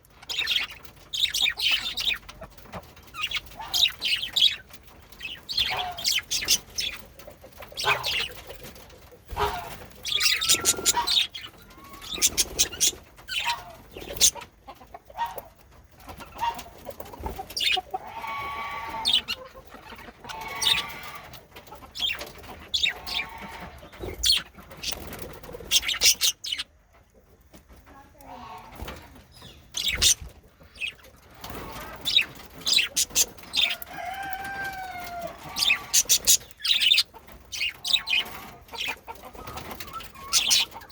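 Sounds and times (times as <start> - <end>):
budgerigars chirping: 0.2 - 8.6, 9.3 - 14.5, 17.5 - 21.2, 21.9 - 26.7, 29.3 - 40.9.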